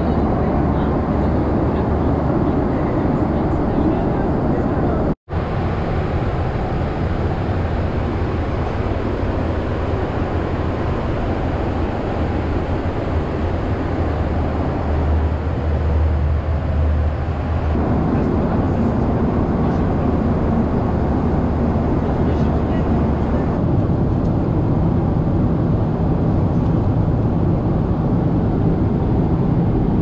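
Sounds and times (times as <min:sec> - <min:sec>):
airplane cabin engine and air noise: 0:00.0 - 0:30.0
low hum: 0:00.0 - 0:30.0.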